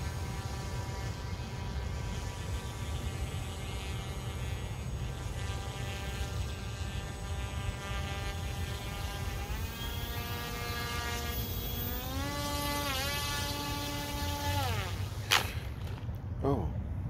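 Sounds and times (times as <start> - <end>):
electric motor and propeller whining: 0.0 - 16.3.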